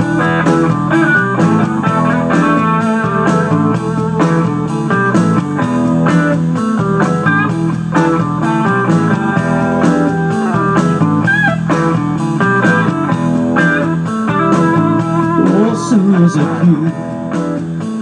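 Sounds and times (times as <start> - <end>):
blues-rock backing track: 0.0 - 18.0
lead guitar bending notes: 0.0 - 18.0.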